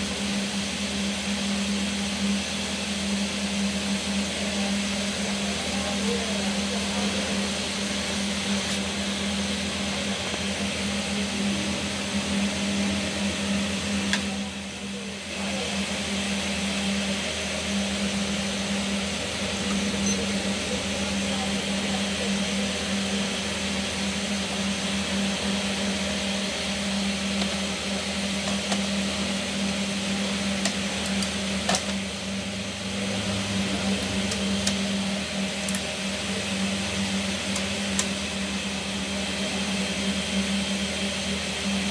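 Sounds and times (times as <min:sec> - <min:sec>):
machine hum with hiss: 0:00.0 - 0:41.9.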